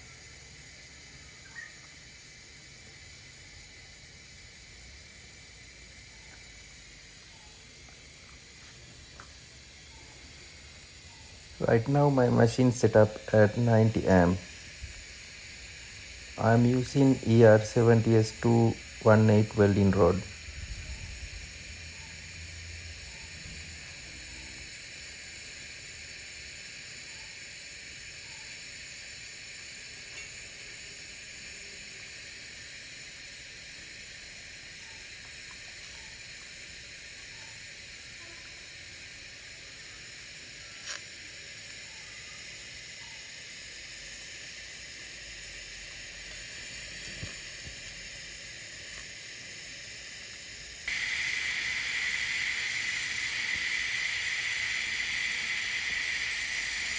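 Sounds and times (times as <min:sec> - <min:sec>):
welding arc hissing: 0:00.0 - 0:56.9.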